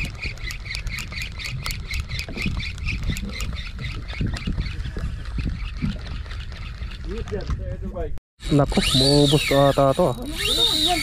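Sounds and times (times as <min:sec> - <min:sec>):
fishing reel squeaking: 0:00.0 - 0:07.3, 0:08.4 - 0:11.0.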